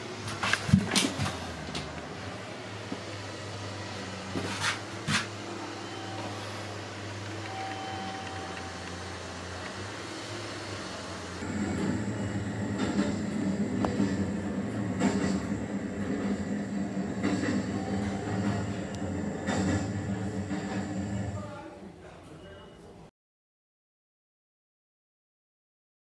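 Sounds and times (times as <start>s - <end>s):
steady low hum: 0.0s - 21.6s
train rumble: 0.0s - 21.7s.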